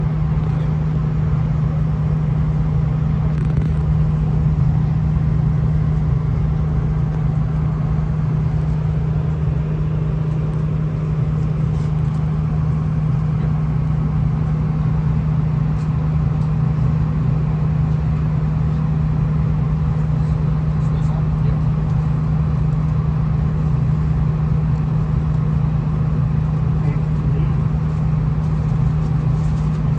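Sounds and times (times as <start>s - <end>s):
diesel railcar droning: 0.0s - 29.9s.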